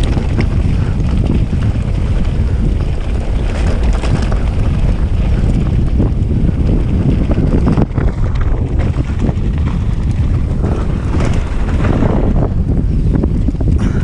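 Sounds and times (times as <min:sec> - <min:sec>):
knocks and rattles: 0:00.0 - 0:14.0
wind buffeting microphone: 0:00.0 - 0:14.0.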